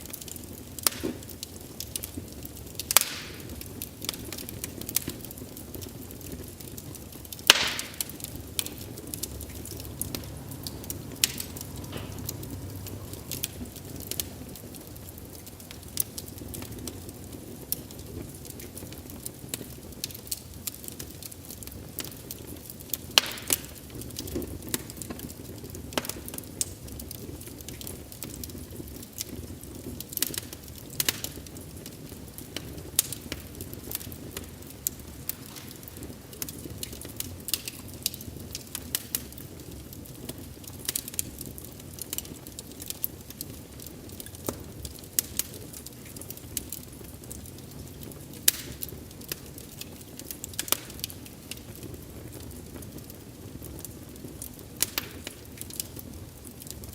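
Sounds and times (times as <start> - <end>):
fire popping: 0.0 - 56.9
wood fire crackling: 0.0 - 56.9.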